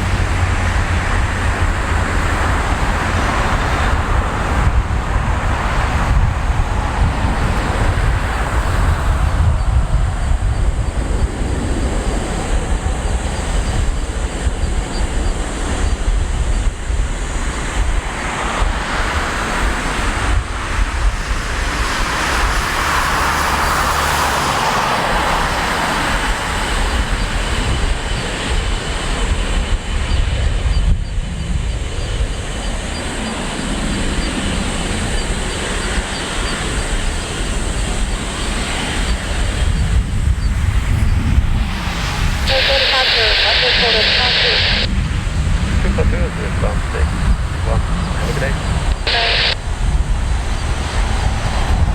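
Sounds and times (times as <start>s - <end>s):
jet engines roaring at takeoff: 0.0s - 51.9s.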